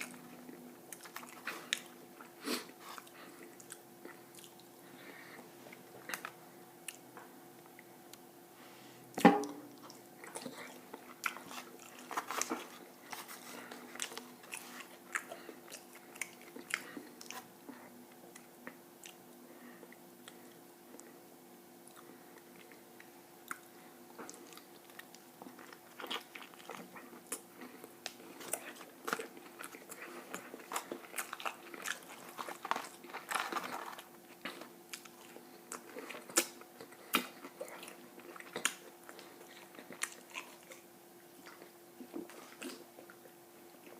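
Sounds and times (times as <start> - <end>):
person chewing crunchy food: 0.0 - 7.1, 9.5 - 21.2, 21.8 - 43.9
faint steady hum: 0.0 - 43.9.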